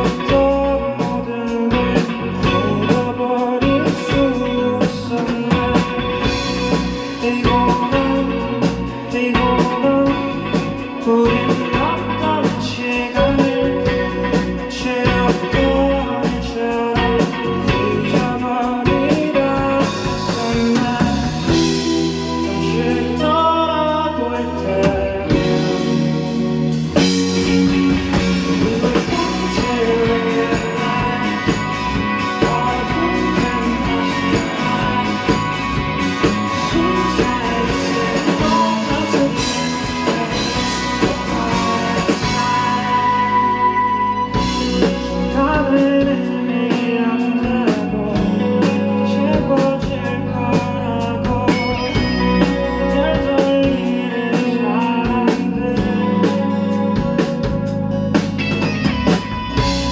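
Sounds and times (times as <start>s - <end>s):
drums: 0.0s - 59.9s
person singing: 0.0s - 59.9s
rock band playing live: 0.0s - 59.9s.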